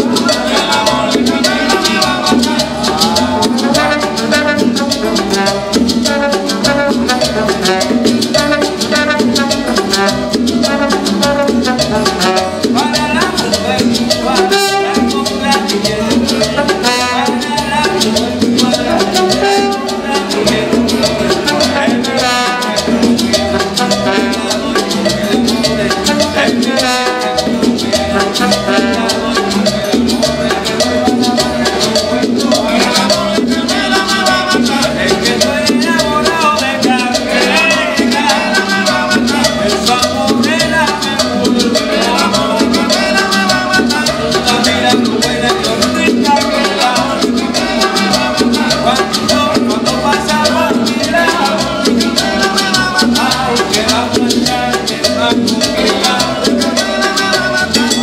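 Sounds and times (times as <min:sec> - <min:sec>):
voices singing: 0:00.0 - 0:06.5, 0:07.1 - 0:58.0
bongos: 0:00.0 - 0:58.0
brass horn: 0:00.0 - 0:58.0
double bass: 0:00.0 - 0:58.0
maracas: 0:00.0 - 0:58.0
strummed acoustic guitars: 0:00.0 - 0:58.0.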